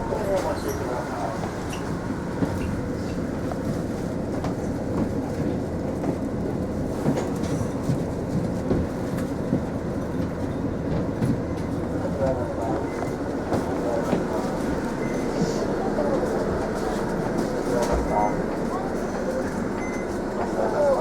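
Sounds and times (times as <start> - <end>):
bus engine rumble: 0.0 - 21.0.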